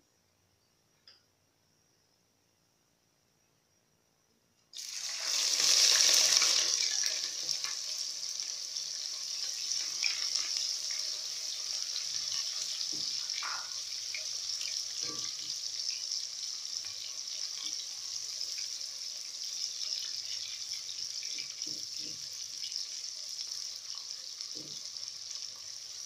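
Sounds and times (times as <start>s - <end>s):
onions sizzling in hot oil: 4.8s - 26.0s.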